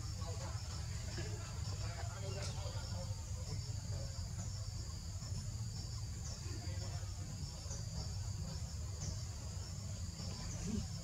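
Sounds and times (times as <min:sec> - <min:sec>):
constant low rumble: 0:00.0 - 0:11.0
insect chorus drone: 0:00.0 - 0:11.0.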